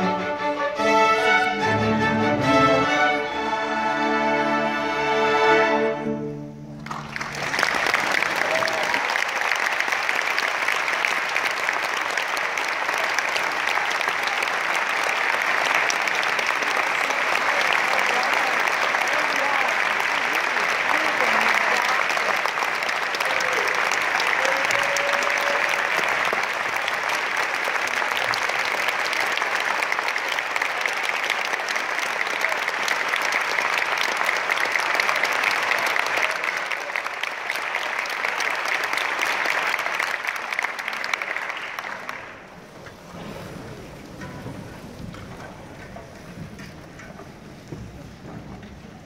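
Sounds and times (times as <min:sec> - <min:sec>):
audience noise: 0:00.0 - 0:49.0
audience applause: 0:06.7 - 0:49.0.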